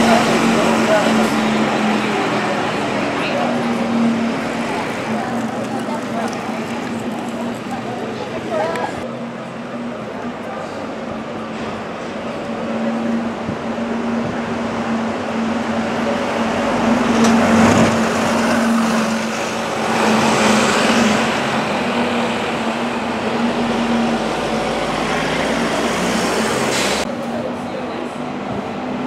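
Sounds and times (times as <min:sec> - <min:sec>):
bus driving away: 0:00.0 - 0:29.0
street traffic: 0:00.0 - 0:29.0.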